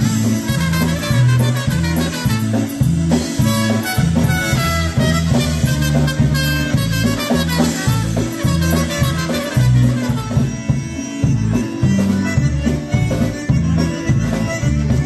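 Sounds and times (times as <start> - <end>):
polka band playing: 0.0 - 15.0
pulsing bass line: 0.0 - 15.0.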